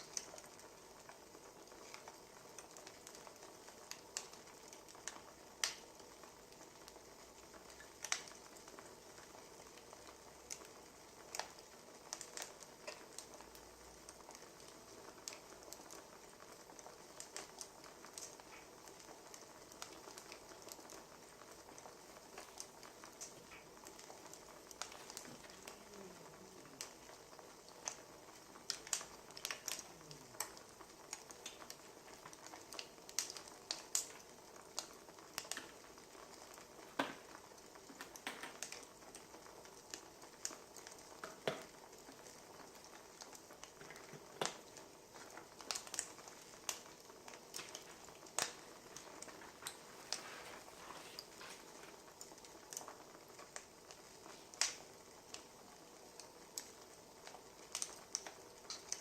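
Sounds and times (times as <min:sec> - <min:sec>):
faint steady hiss: 0:00.0 - 0:59.0
wood fire crackling: 0:00.0 - 0:59.0.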